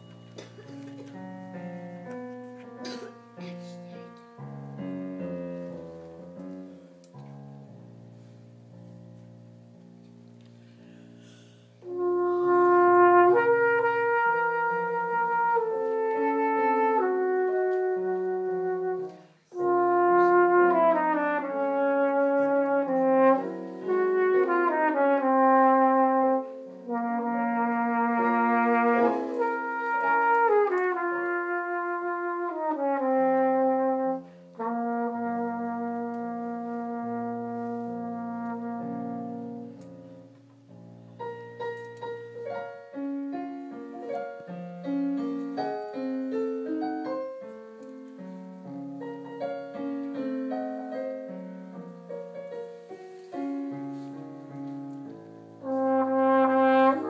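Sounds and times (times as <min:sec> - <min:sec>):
soft piano: 0:00.0 - 0:57.0
trumpet slow melody: 0:11.2 - 0:57.0.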